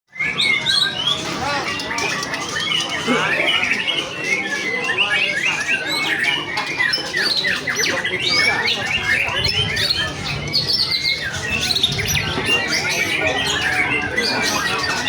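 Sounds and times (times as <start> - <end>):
many songbirds singing: 0.1 - 15.0.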